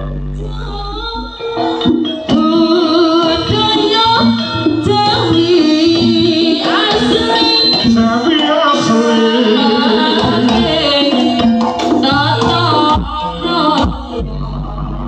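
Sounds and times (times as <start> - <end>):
gamelan ensemble: 0.0 - 14.9
person singing: 0.0 - 15.0
hand drumming: 1.6 - 14.2.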